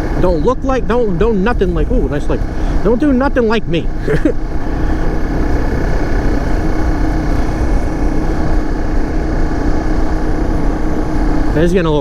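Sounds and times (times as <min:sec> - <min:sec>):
dirt bike engine running: 0:00.0 - 0:12.0
heavy low rumble: 0:00.0 - 0:12.0.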